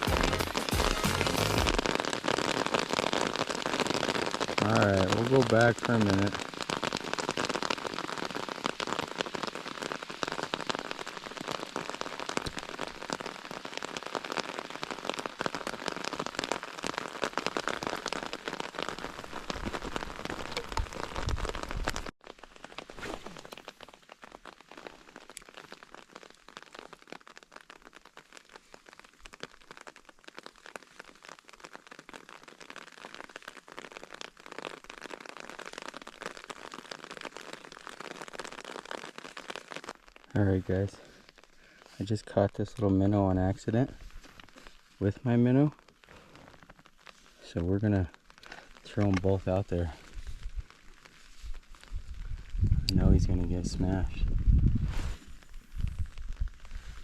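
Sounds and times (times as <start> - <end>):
rain falling: 0.0 - 57.0
raindrops hitting microphone: 0.0 - 57.0.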